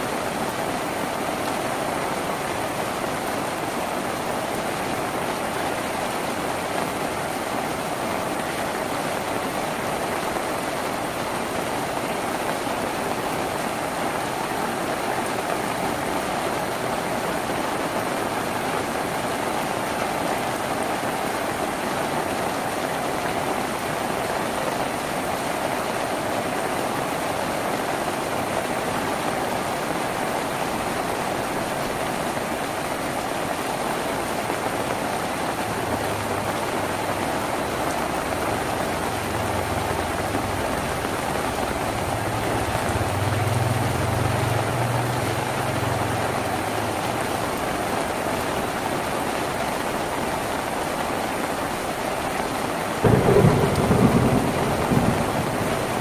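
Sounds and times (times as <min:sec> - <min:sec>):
rain drumming on a tin roof: 0:00.0 - 0:56.0.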